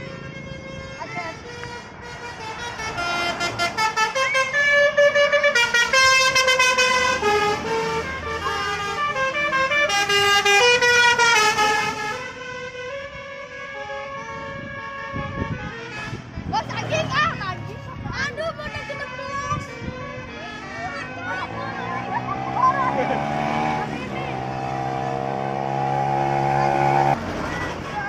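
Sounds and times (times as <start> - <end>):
musical bus horn playing a tune: 0.0 - 16.6, 18.4 - 27.2.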